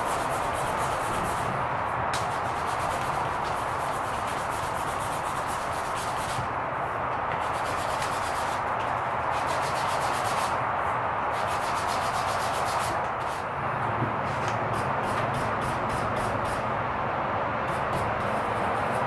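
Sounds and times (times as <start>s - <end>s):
hand sanding scratching strokes: 0.0s - 6.6s, 7.4s - 13.5s, 14.2s - 16.7s, 17.7s - 19.0s.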